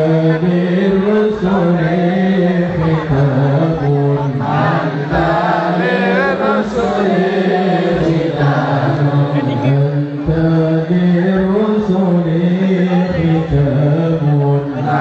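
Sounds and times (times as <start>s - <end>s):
voices chanting devotional song: 0.0s - 15.0s.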